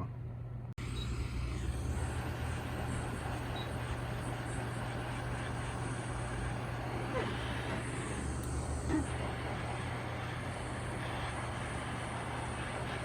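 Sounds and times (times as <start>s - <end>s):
air blowing: 1.2s - 13.0s.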